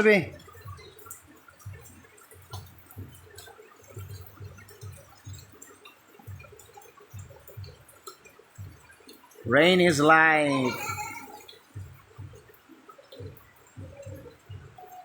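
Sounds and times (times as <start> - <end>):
faint rain: 0.0 - 15.0
water drop ticks: 0.3 - 15.0.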